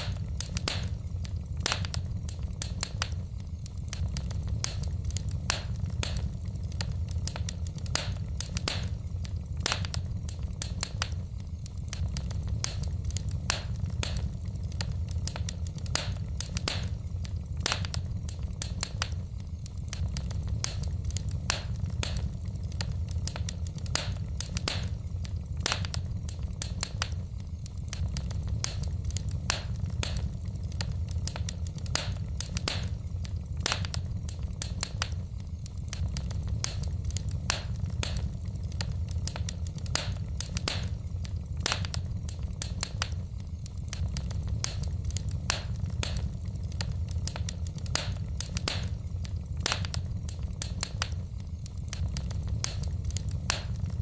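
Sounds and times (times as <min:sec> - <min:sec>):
fire low rumble: 0:00.0 - 0:54.0
wood fire crackling and popping: 0:00.0 - 0:54.0.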